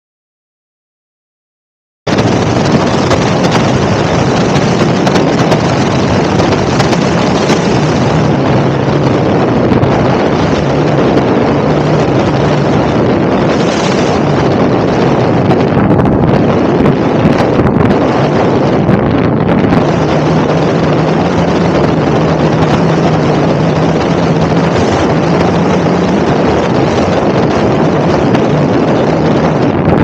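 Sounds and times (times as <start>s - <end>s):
wind buffeting microphone: 2.1s - 30.0s.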